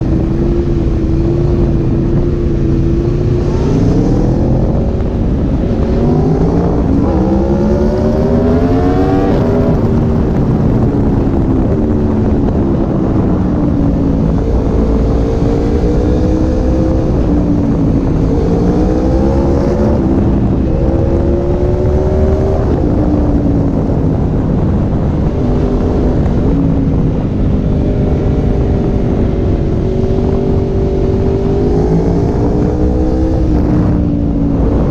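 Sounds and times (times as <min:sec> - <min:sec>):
motorcycle engine revving: 0:00.0 - 0:34.9
wind and road rumble: 0:00.0 - 0:34.9.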